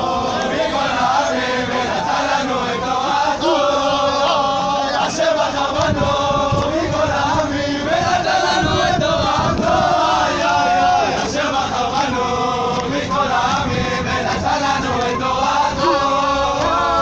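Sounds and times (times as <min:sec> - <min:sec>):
men singing a chant in unison: 0:00.0 - 0:17.0.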